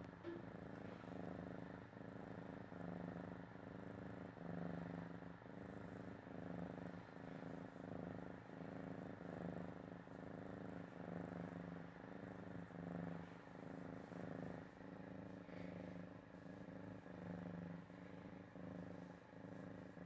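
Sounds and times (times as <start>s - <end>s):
cat snoring: 0.0s - 20.0s.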